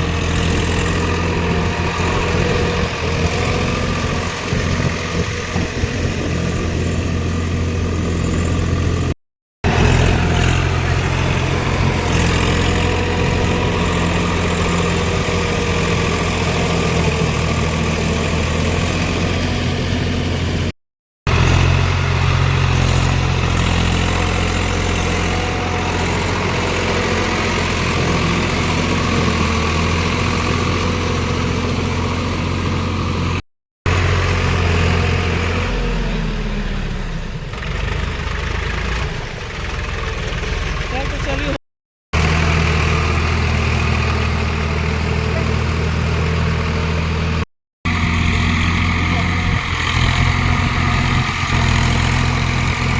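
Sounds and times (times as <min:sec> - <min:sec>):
tractor diesel engine running: 0:00.0 - 0:20.7, 0:21.3 - 0:41.6, 0:42.2 - 0:52.9.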